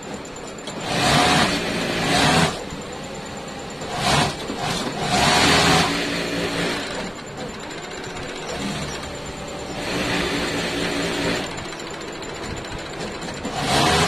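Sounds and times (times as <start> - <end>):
machine hum: 0.0 - 14.0
sewing machine stitching: 0.0 - 14.0.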